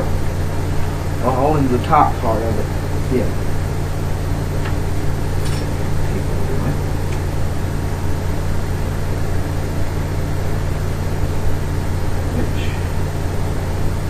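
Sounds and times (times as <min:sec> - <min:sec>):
tape recorder motor humming: 0:00.0 - 0:14.0.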